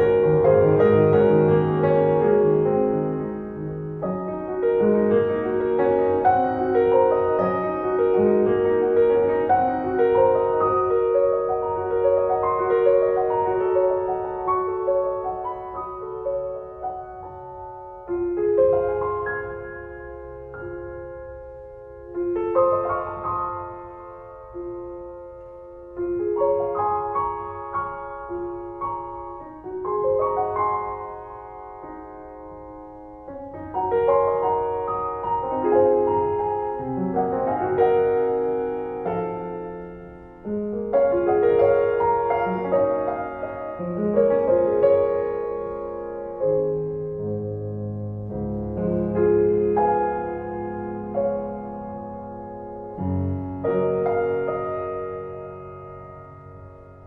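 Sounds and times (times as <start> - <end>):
slow piano piece: 0.0 - 57.0.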